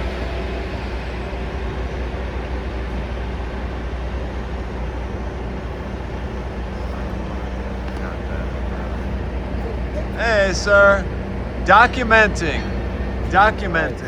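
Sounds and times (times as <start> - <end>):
heavy engine rumbling: 0.0 - 14.0
street traffic passing: 0.0 - 14.0.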